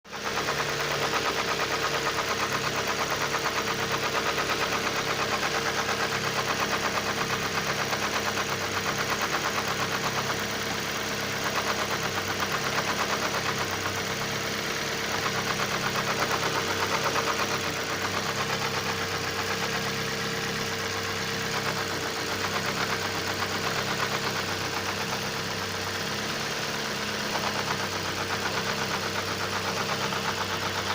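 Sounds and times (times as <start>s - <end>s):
car engine idling: 0.1s - 30.9s.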